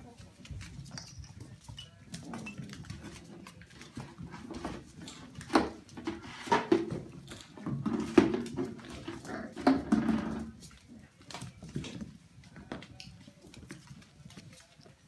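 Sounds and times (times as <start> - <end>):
paws scrabbling on floor: 0.0 - 15.0.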